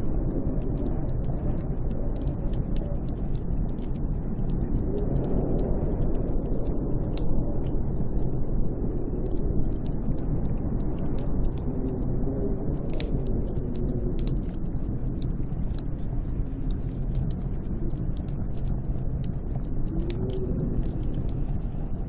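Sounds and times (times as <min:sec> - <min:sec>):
deep rush of storm wind: 0:00.0 - 0:22.0
small sharp crackles: 0:00.0 - 0:22.0.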